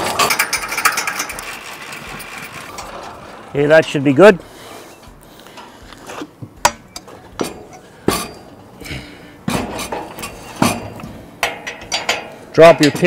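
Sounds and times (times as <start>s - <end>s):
metal clanks and knocks: 0.0s - 4.4s, 5.0s - 13.0s.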